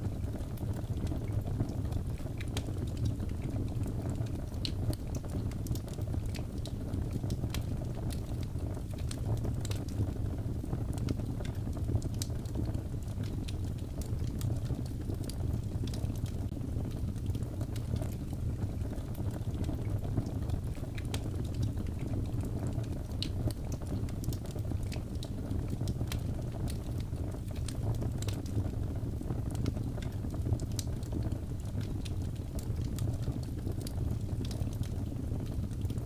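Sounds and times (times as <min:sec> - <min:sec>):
low rumble of fire: 0:00.0 - 0:36.0
wood fire crackling and popping: 0:00.0 - 0:36.0.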